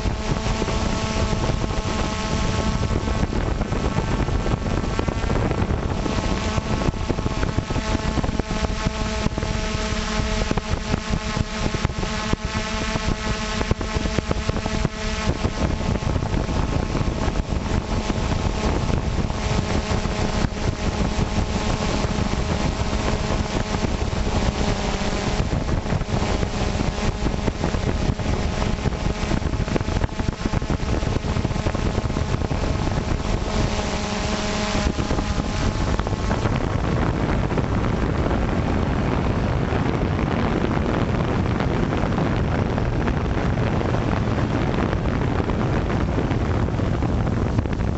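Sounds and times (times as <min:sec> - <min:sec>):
electric motors and propellers whining: 0:00.0 - 0:47.9
wind rushing over microphone: 0:00.0 - 0:47.9.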